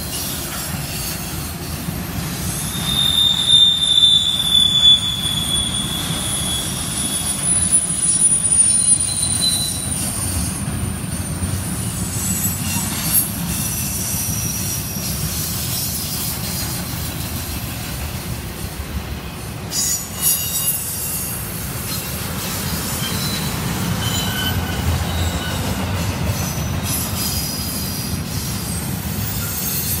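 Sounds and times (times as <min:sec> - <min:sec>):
high-pitched wheel squeals: 0:00.0 - 0:17.2, 0:19.7 - 0:30.0
train wheels rumbling on rails: 0:00.0 - 0:30.0.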